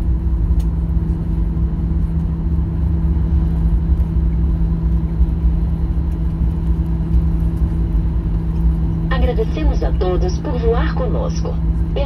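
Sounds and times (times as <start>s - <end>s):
constant cabin hum: 0.0s - 12.0s
low rumble of engines and wheels: 0.0s - 12.0s.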